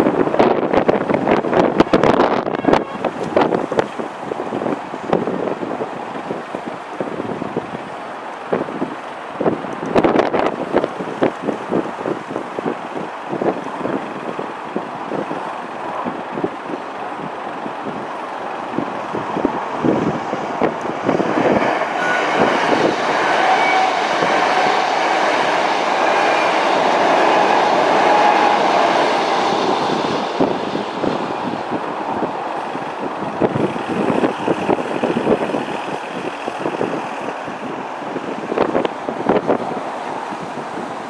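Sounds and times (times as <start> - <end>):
train passing rushing rumble: 0.0 - 41.0.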